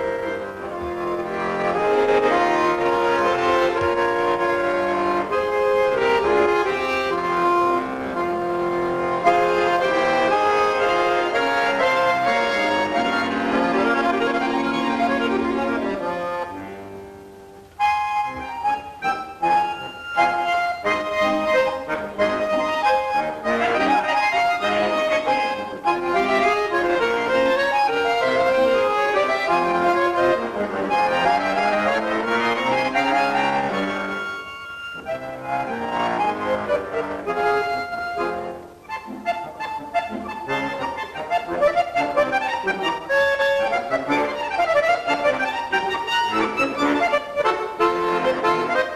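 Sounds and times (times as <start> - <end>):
button accordion playing: 0.0 - 48.9.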